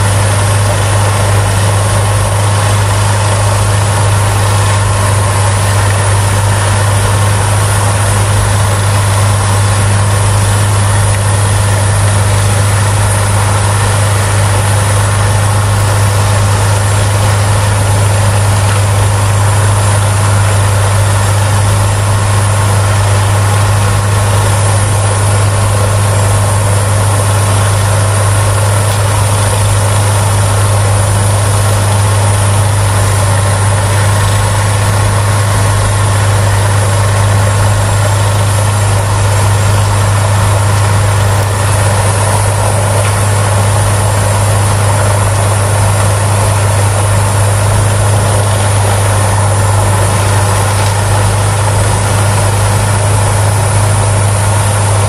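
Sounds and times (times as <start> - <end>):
wood chipper running: 0.0 - 55.0.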